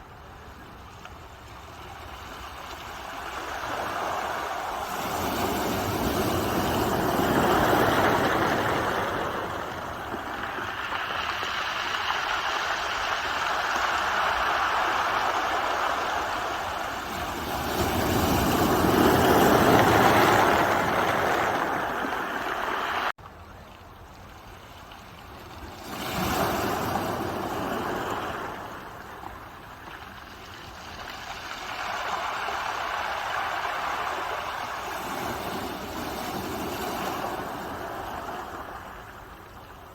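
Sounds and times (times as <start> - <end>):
ocean waves breaking: 0.1 - 23.2, 25.3 - 39.9.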